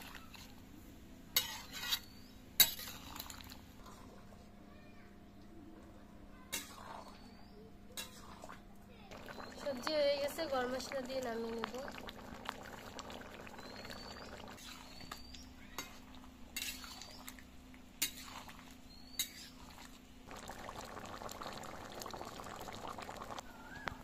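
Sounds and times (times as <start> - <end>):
curry bubbling in a pan: 1.4 - 4.3, 6.5 - 24.0.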